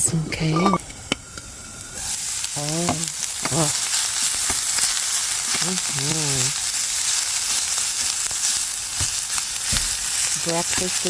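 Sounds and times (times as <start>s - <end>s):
sausage sizzling in a frying pan: 0.0s - 11.0s.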